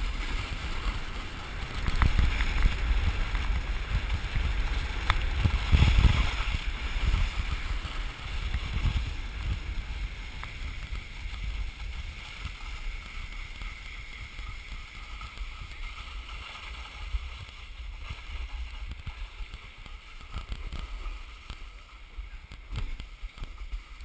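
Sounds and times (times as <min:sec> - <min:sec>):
snowboard scraping over snow: 0:00.0 - 0:24.0
wind rumbling on microphone: 0:00.0 - 0:24.0.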